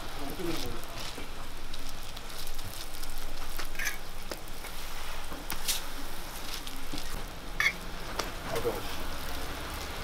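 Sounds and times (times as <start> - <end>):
dough sizzling in oil: 0.0 - 10.0.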